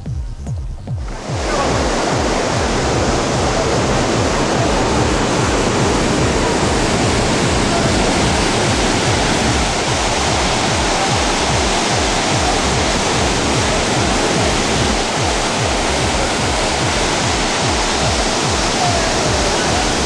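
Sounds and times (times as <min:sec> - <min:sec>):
low rumble: 0:01.0 - 0:20.0
waterfall rushing: 0:01.0 - 0:20.0.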